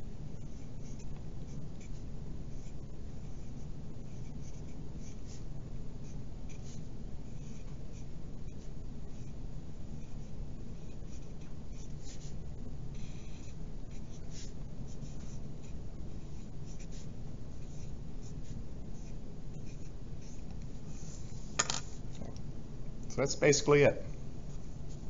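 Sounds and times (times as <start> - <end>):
pencil scratching on paper: 0.3 - 21.5.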